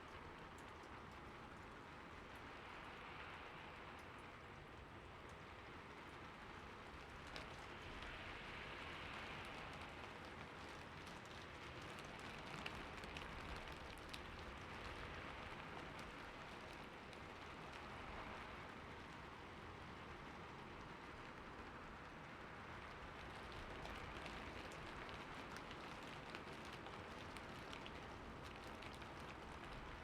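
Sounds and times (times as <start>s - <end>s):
rain patter on a roof: 0.0s - 30.0s.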